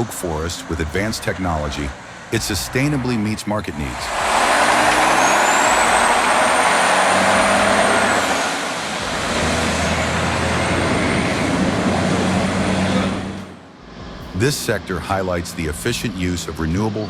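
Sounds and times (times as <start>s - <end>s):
dense rushing noise: 0.0s - 16.4s
diesel engine hum: 0.0s - 17.0s
faint high whine: 2.4s - 16.6s.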